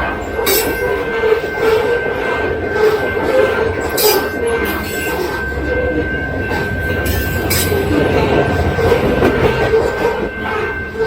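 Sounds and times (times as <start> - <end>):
thin steady squeal: 0.0 - 11.0
train wheels rumbling on rail: 0.0 - 11.0.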